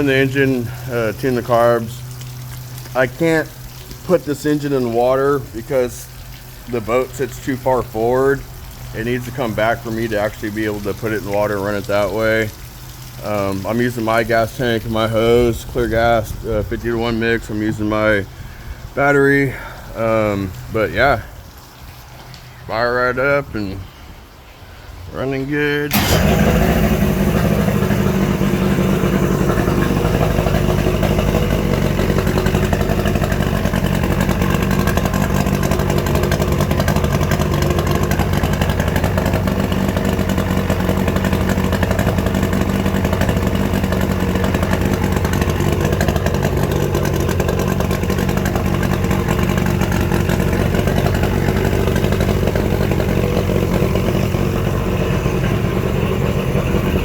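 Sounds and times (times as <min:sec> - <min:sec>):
outboard motor running: 0:00.0 - 0:21.2, 0:25.9 - 0:57.0.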